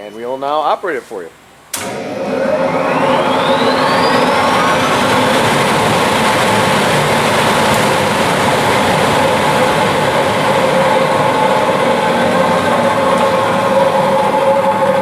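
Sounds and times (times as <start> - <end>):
motor hum: 1.7 - 15.0
exhaust blower rushing air: 1.8 - 15.0.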